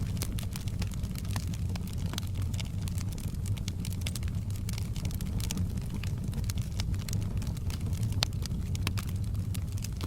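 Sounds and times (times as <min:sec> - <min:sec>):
fire crackling and popping: 0:00.0 - 0:10.0.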